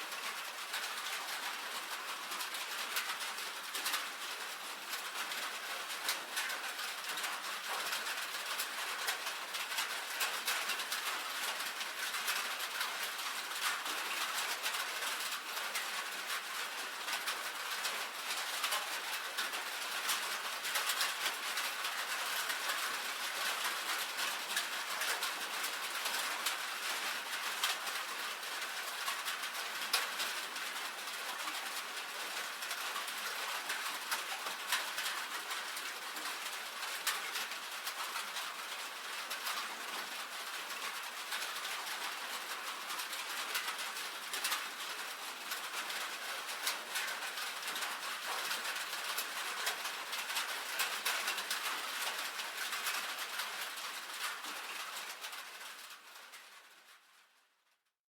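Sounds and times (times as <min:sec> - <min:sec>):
rain on a tin roof: 0:00.0 - 0:57.9.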